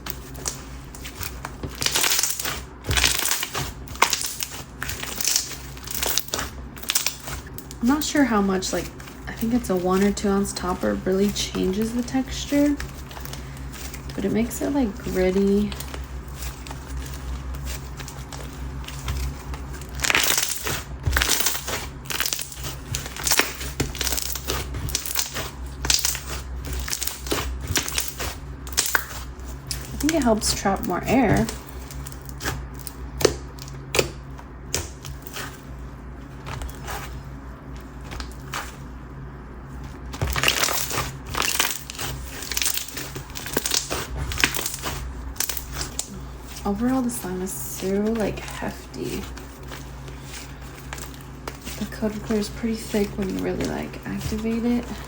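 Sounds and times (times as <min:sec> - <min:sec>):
slime crackling and squishing: 0:00.0 - 0:55.0.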